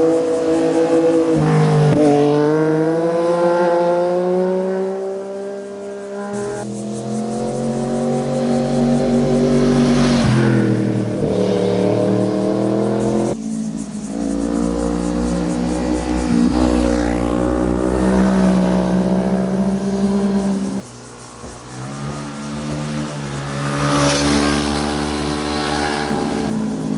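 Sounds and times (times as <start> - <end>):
motorcycle engines revving: 0.0 - 26.9.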